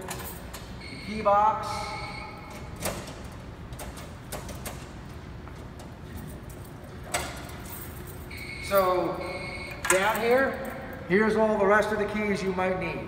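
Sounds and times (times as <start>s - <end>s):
steady room hum: 0.0s - 13.0s.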